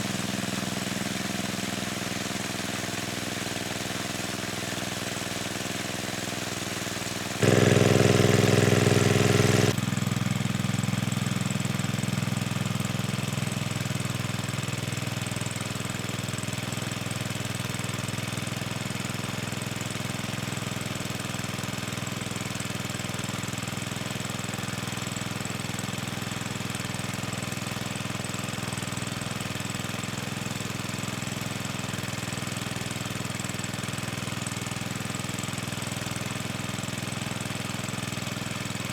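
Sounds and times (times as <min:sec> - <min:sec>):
small engine running roughly: 0:00.0 - 0:38.9.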